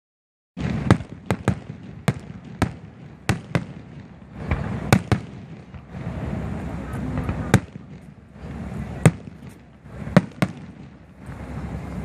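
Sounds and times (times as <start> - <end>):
fireworks bangs: 0.6 - 12.0
low rumble: 0.7 - 12.0.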